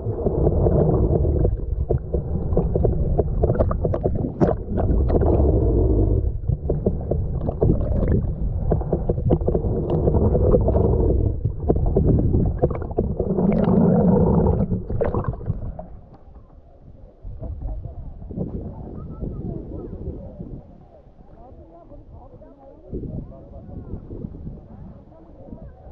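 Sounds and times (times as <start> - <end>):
muffled water gurgling and sloshing: 0.0 - 25.9.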